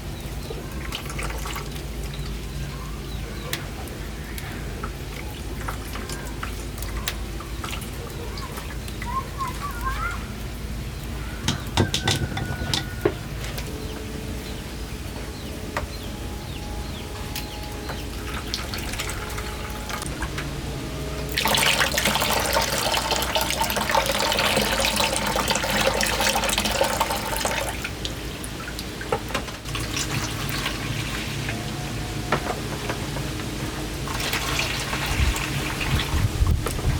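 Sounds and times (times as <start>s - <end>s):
water pouring in a strong stream: 0.0s - 13.4s, 18.2s - 20.1s, 21.2s - 32.2s, 33.2s - 36.9s
water splashing and dripping: 0.0s - 36.9s.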